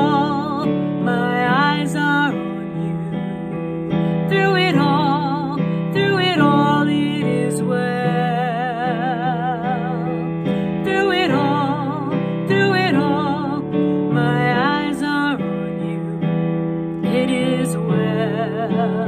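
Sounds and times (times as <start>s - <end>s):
electric keyboard chords: 0.0s - 19.0s
woman singing worship melody: 0.0s - 19.0s.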